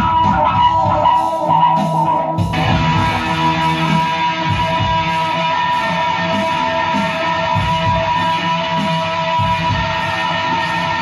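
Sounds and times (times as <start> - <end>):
electric guitar music: 0.0 - 11.0
low thuds of a beat: 0.0 - 11.0.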